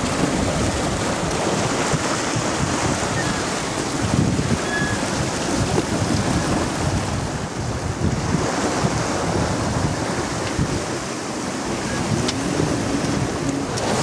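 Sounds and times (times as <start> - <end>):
sea water rushing: 0.0 - 14.0
wind buffeting microphone: 0.0 - 14.0.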